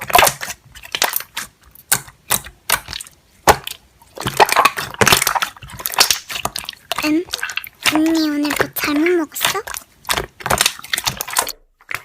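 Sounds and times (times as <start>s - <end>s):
slime squishing with wet pops: 0.0s - 12.0s.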